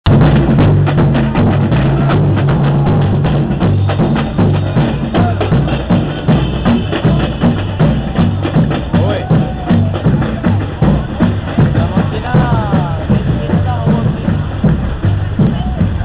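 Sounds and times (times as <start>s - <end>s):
low bass drums: 0.0s - 16.0s
samba percussion drumming: 0.0s - 16.0s.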